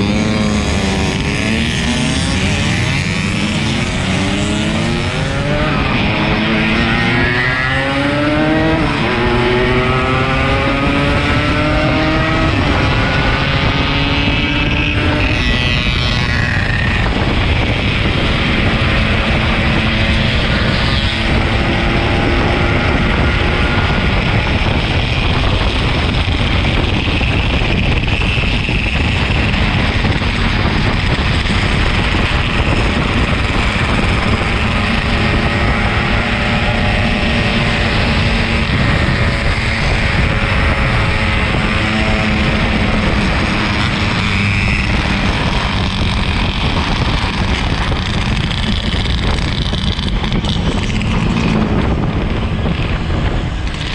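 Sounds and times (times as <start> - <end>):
motorcycle engine running: 0.0 - 53.9
wind on microphone: 0.0 - 53.9.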